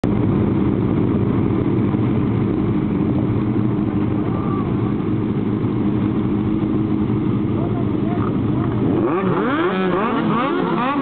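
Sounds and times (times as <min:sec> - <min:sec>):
motorcycle engines idling: 0:00.0 - 0:11.0.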